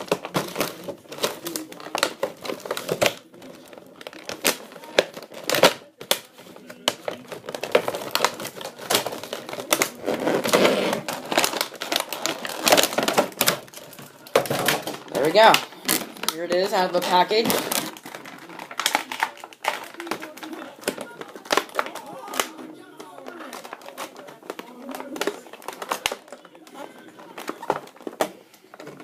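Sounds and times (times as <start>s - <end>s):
plastic packaging crinkling: 0.0s - 29.0s.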